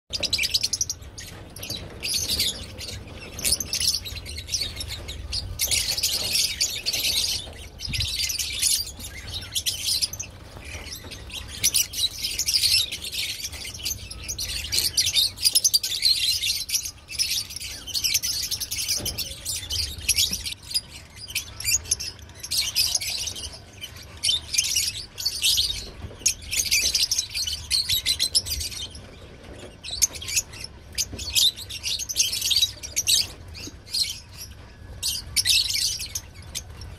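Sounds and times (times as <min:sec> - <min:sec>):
lovebirds chattering: 0:00.1 - 0:36.9.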